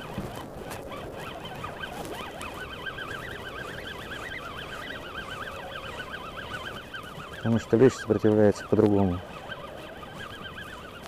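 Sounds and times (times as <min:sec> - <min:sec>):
fishing reel winding whine: 0:00.0 - 0:11.0.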